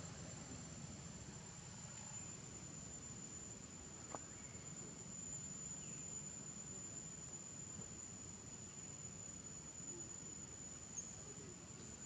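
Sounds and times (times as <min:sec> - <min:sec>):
high-pitched insect drone: 0:01.8 - 0:11.8.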